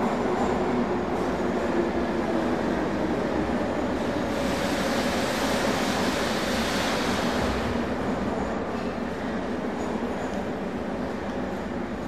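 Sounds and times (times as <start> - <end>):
train rumbling with rushing hiss: 0.0 - 12.0.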